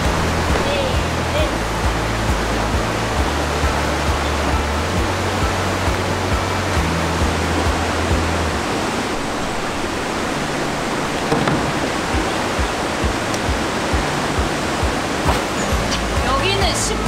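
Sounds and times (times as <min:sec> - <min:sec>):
background music with beat and bass: 0:00.0 - 0:08.8, 0:11.7 - 0:17.0
steady rushing noise: 0:00.0 - 0:17.0.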